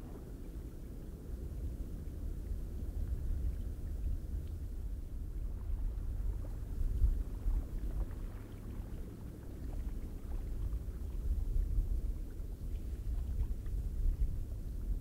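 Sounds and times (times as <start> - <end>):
low rumbling wind: 0.0 - 15.0.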